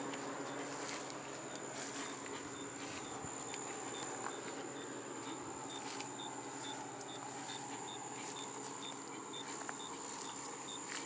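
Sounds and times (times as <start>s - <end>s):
cricket chirping: 0.0s - 11.0s
high-pitched insect trill: 0.0s - 11.0s.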